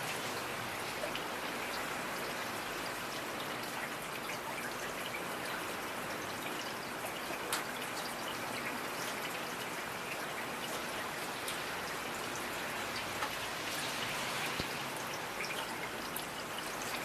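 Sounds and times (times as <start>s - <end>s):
raindrops ticking on surface: 0.0s - 17.0s
steady rain: 0.0s - 17.0s.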